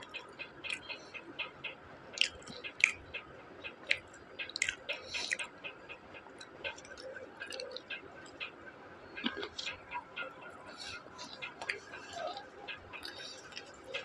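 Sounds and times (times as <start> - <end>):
mouth clicks: 0.0 - 14.0
crunchy chewing: 2.1 - 8.5, 9.2 - 14.0.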